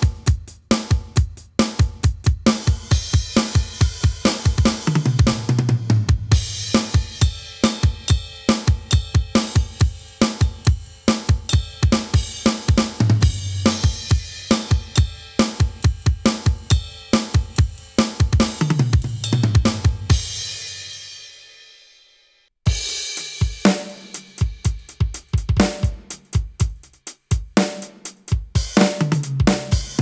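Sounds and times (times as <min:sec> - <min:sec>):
fast bass drum strokes: 0:00.0 - 0:20.9, 0:22.7 - 0:30.0
electronic drum kit playing metal: 0:00.0 - 0:21.4, 0:22.7 - 0:30.0.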